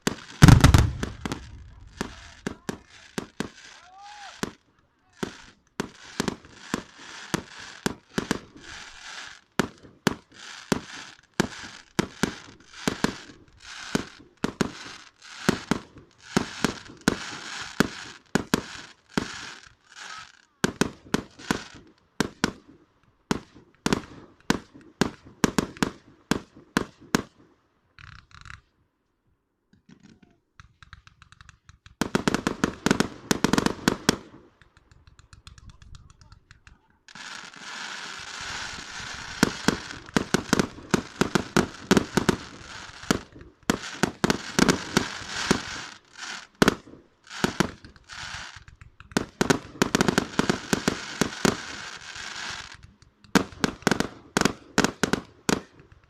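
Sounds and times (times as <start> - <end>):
fireworks bangs and crackling: 0.0 - 28.7, 29.8 - 56.0.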